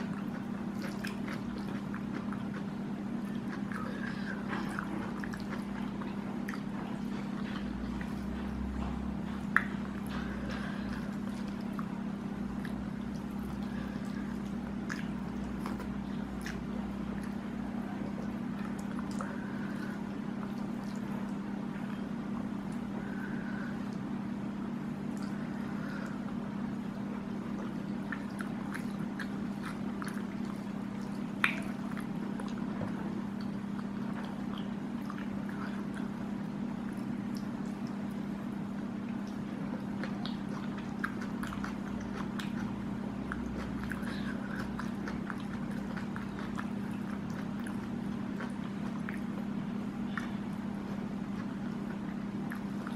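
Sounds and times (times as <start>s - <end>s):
soft chewing: 0.0s - 52.9s
steady low hum: 0.0s - 52.9s.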